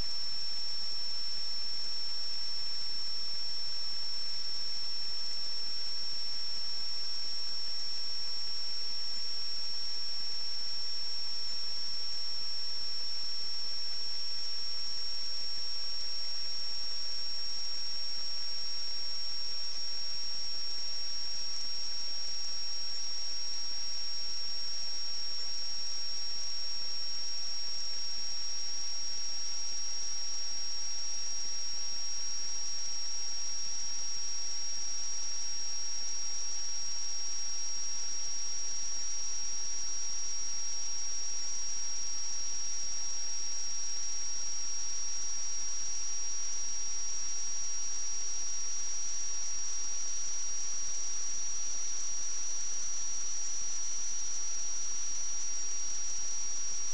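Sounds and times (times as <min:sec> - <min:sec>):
high-pitched electronic whine: 0:00.0 - 0:56.9.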